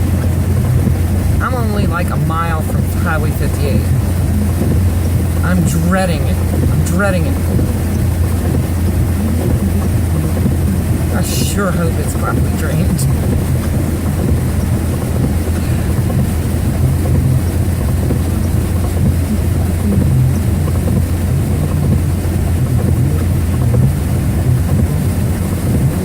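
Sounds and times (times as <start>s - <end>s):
truck engine and road noise: 0.0s - 26.0s
wind or water wash: 0.0s - 26.0s.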